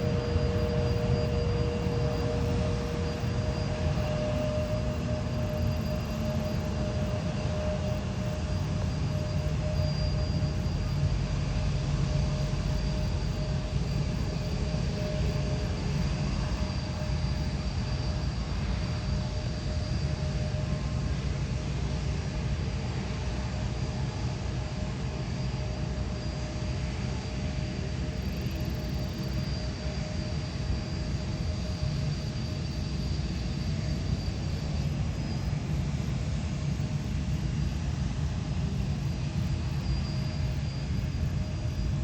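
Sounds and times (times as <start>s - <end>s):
jet engines rumbling and whining: 0.0s - 42.0s.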